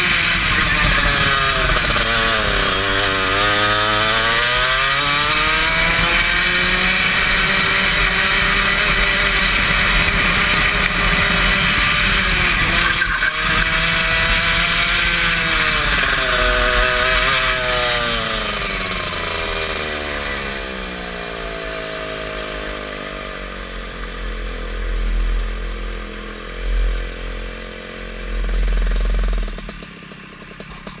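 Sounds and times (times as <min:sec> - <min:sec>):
go-kart engine revving: 0:00.0 - 0:31.0.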